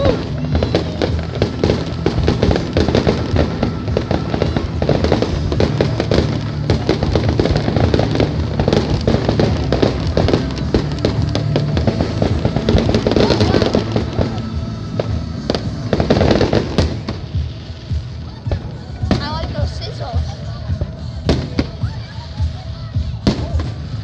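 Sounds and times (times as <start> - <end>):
fireworks crackles and bangs: 0.0 - 24.0
music playing: 0.0 - 24.0.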